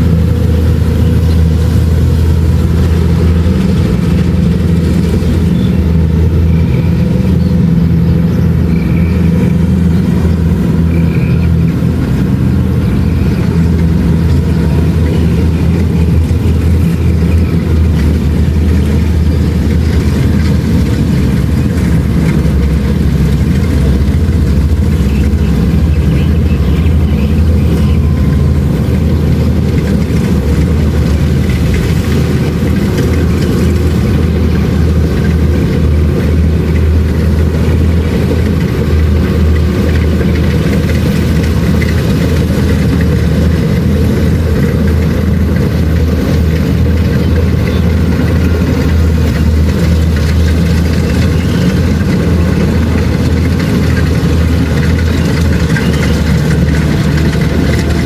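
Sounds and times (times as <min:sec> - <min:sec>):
combine harvester diesel engine droning: 0:00.0 - 0:58.0.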